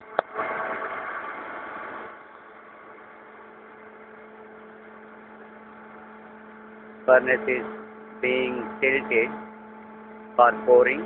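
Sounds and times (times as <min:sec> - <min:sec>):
furnace drive machinery humming: 0:00.0 - 0:11.0.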